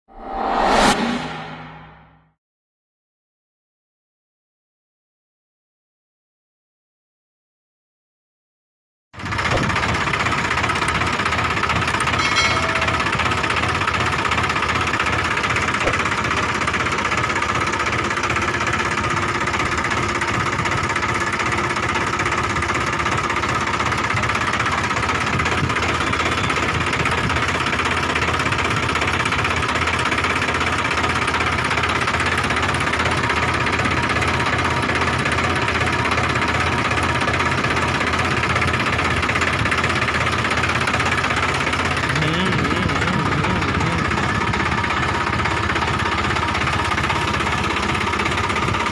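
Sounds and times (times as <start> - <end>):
tractor diesel engine knocking: 9.2 - 48.9.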